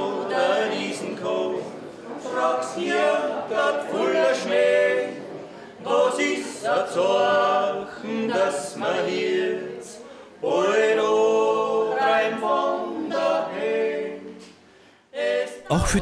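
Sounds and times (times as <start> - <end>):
three people singing a cappella: 0.0 - 16.0.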